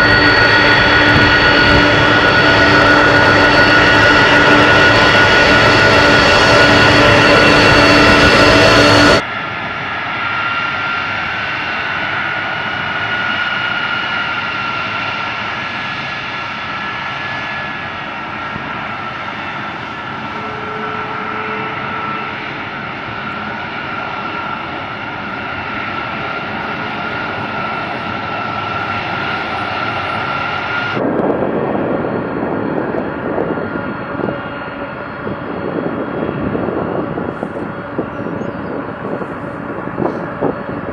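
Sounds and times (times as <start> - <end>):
turbofan engines whining: 0.0 - 40.9.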